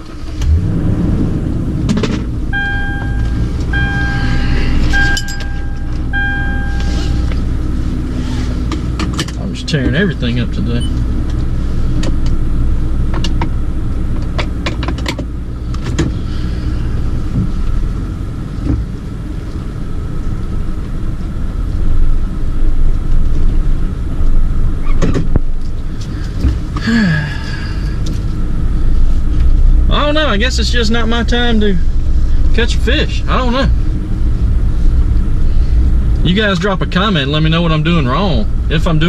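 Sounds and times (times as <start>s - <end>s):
car cabin road rumble: 0.0s - 39.0s.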